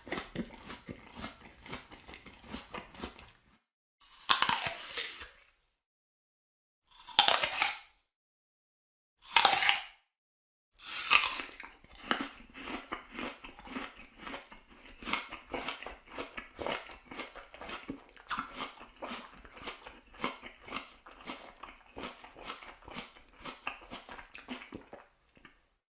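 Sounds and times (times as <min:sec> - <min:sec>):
wet crunchy chewing: 0:00.0 - 0:05.4, 0:06.9 - 0:07.9, 0:09.2 - 0:09.9, 0:10.8 - 0:25.7
apple bite crunch: 0:00.0 - 0:05.6, 0:06.9 - 0:08.0, 0:09.2 - 0:10.0, 0:10.8 - 0:25.6.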